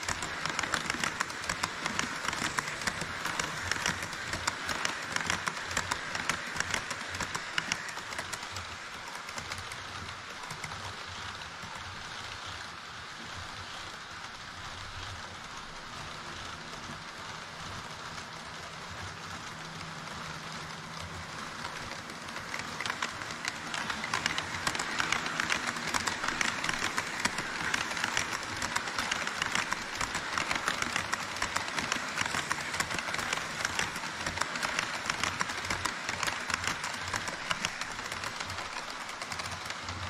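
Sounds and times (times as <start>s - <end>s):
model train wheels rattling on rails: 0.0s - 40.0s.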